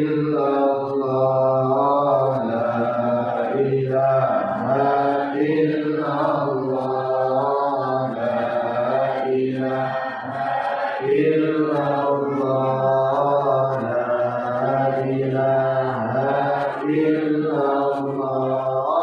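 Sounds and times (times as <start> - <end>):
person chanting melodic recitation: 0.0 - 19.0.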